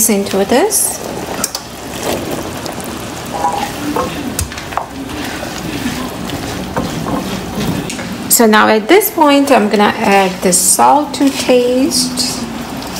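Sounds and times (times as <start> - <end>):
pan sizzling: 0.0 - 12.9.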